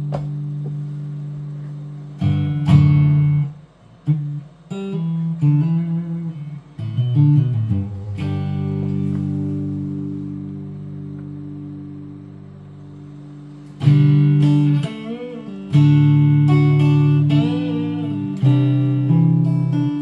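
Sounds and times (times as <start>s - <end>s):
guitar chords and notes: 0.0s - 20.0s.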